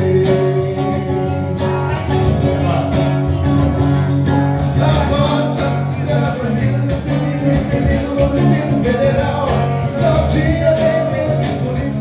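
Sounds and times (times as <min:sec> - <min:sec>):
band playing with guitar: 0:00.0 - 0:12.0.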